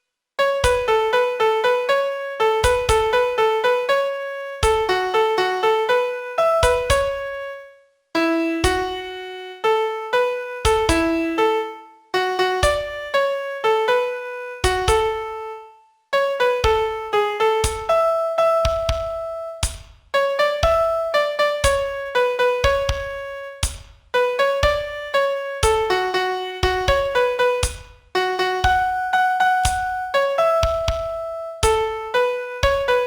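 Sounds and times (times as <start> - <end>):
piano playing single-note melody: 0.4 - 33.0.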